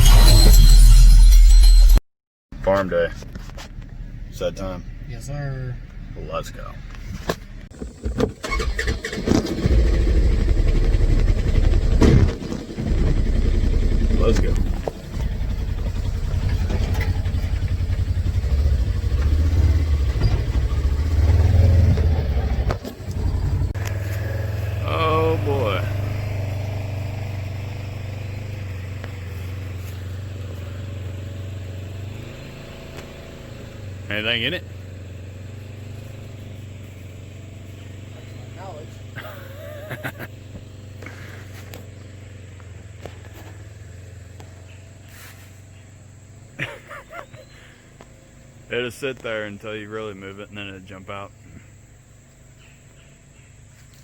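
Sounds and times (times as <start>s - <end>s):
vehicle engine cranking and idling: 2.6s - 54.0s.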